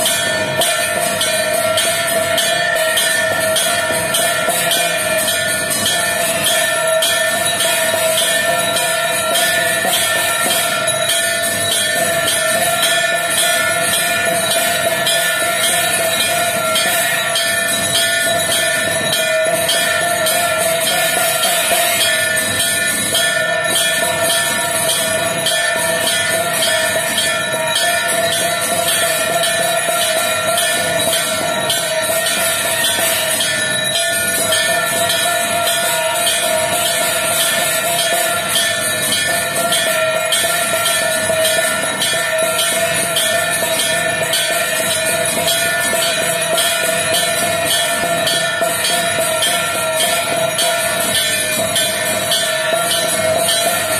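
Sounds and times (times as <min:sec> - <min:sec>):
drum beating: 0:00.0 - 0:53.9
temple bells clanging: 0:00.0 - 0:53.9.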